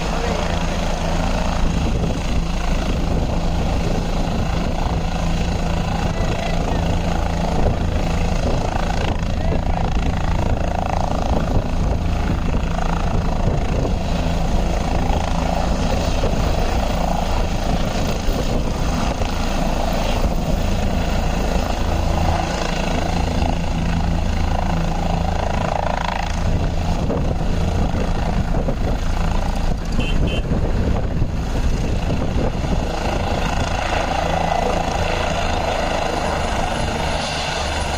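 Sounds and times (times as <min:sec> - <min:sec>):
helicopter engine and rotor drone: 0:00.0 - 0:37.9.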